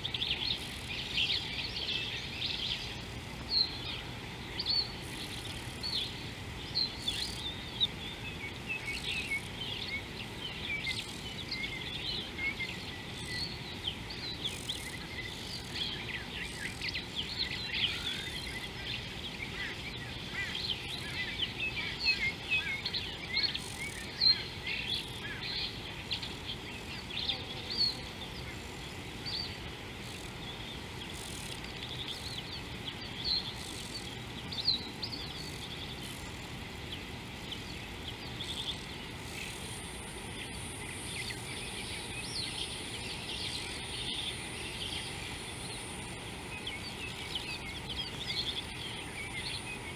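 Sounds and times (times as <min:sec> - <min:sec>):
low outdoor hiss: 0:00.0 - 0:49.9
small birds chirping and twittering: 0:00.0 - 0:49.9.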